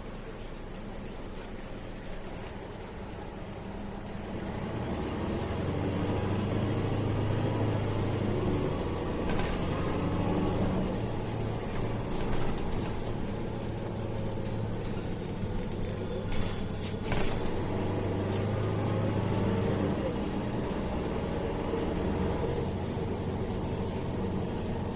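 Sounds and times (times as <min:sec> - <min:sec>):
bus engine drone: 0:00.0 - 0:24.9.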